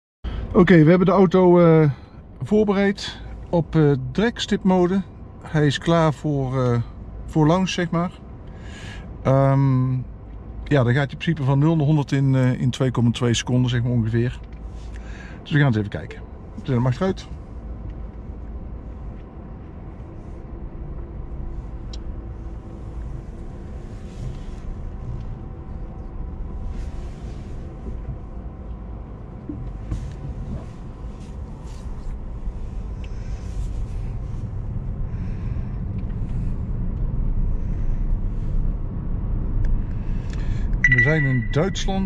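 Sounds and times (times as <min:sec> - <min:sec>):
road and tyre rumble: 0:00.2 - 0:42.0
faint steady whine: 0:00.3 - 0:42.0.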